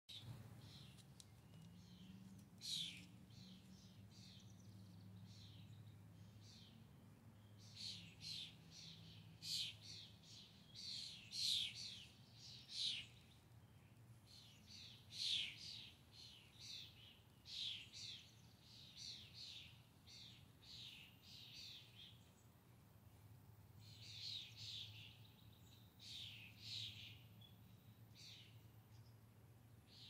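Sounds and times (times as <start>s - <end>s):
songbird chirping: 0.1s - 30.0s.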